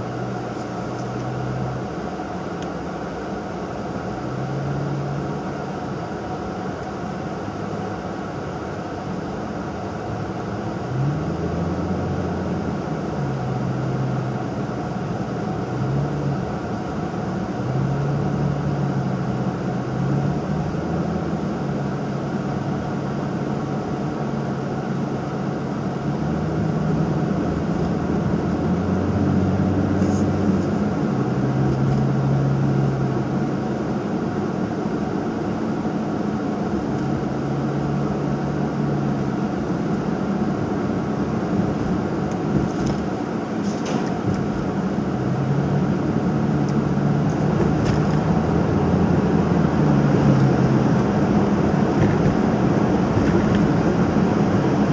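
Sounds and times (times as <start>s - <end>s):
car engine and exhaust droning: 0.0s - 54.9s
road and tyre noise: 0.0s - 54.9s.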